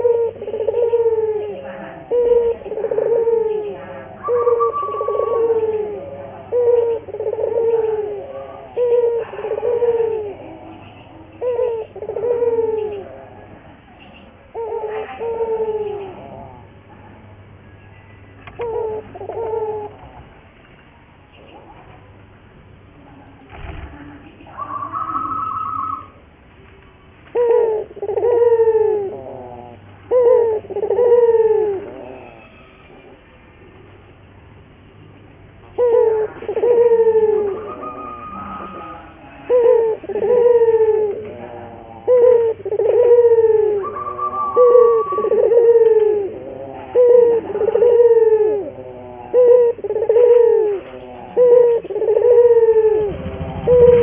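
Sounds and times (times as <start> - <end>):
dove cooing: 0.0 - 20.6, 23.2 - 33.9, 35.6 - 54.0.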